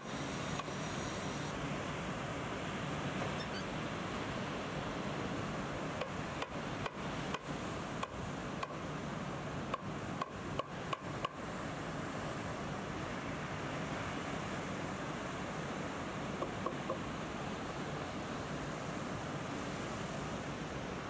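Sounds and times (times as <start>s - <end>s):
ocean surf: 0.0s - 21.0s.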